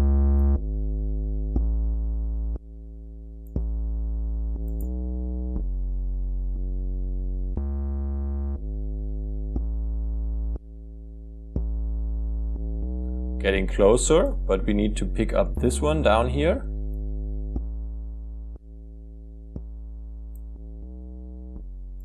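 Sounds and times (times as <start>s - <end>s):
synth bass notes: 0.0s - 22.0s.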